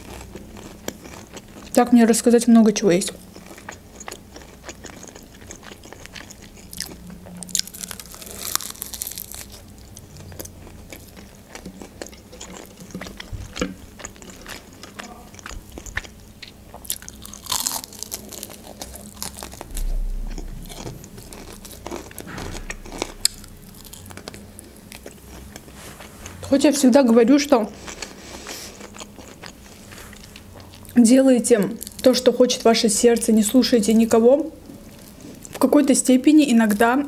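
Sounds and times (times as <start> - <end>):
crunching fried chicken: 0.0 - 25.8, 27.6 - 32.7.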